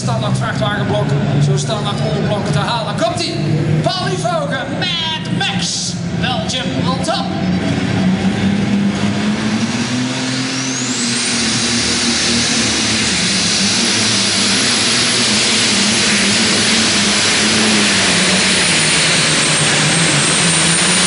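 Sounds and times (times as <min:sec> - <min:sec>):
high whine: 0:00.0 - 0:21.0
pulling tractor engine drone: 0:00.0 - 0:21.0.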